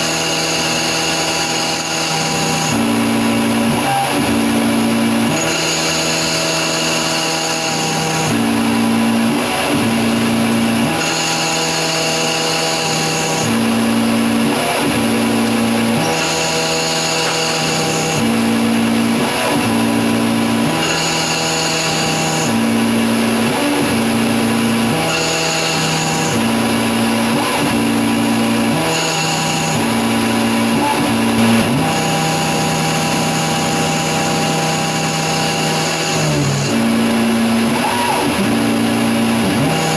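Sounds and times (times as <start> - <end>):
lathe machine whine: 0.0 - 39.9.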